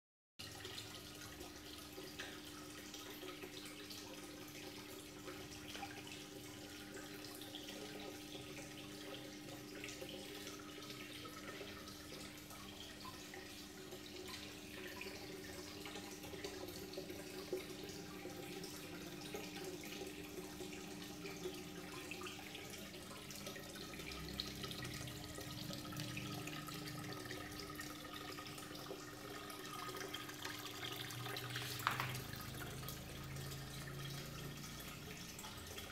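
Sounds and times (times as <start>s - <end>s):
aquarium filter water splashing: 0.4s - 35.9s.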